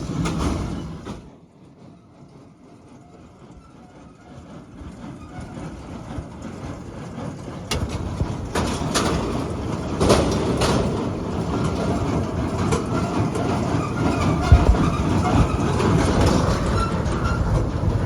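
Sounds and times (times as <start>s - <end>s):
baler rumbling and clattering: 0.0s - 1.4s, 3.6s - 18.0s.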